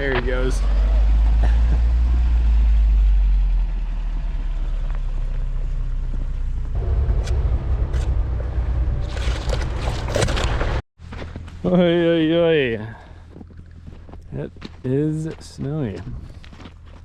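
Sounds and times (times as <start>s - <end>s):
off-road engine droning: 0.0s - 17.0s.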